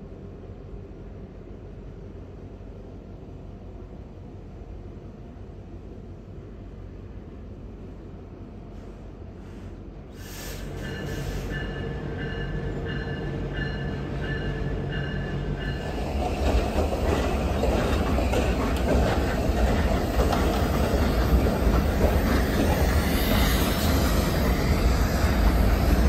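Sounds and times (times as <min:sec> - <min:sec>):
freight train passing: 0:00.0 - 0:26.0.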